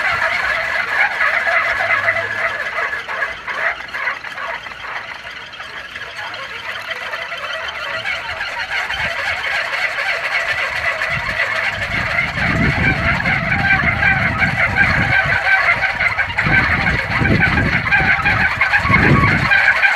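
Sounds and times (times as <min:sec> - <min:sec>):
wind gusts buffeting microphone: 0:00.0 - 0:06.6, 0:07.9 - 0:19.9
wooden wind propeller whirring: 0:00.0 - 0:19.9.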